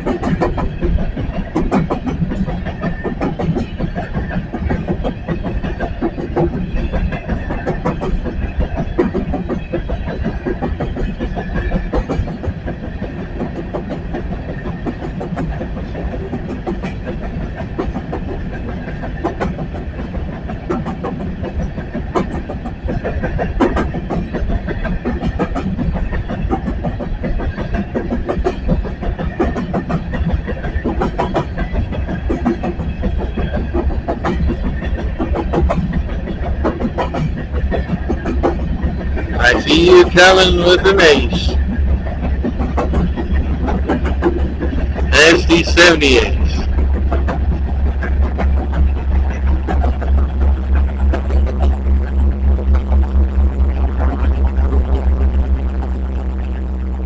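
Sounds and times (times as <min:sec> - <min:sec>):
train cars rolling past: 0:00.0 - 0:52.9.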